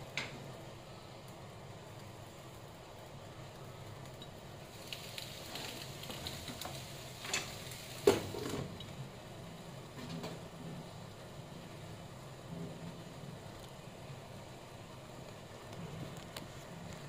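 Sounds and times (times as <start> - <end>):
mussels sizzling in a pan: 1.7 - 16.9.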